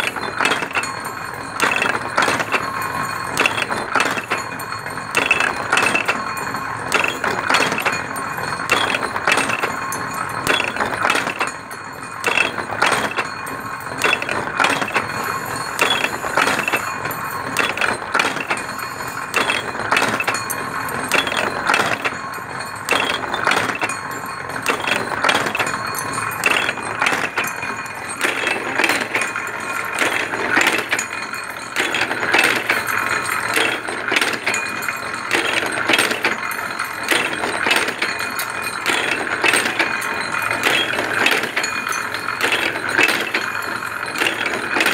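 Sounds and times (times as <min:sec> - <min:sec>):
machine whine: 0:00.0 - 0:44.9
metallic clicks and clanks: 0:00.0 - 0:44.9.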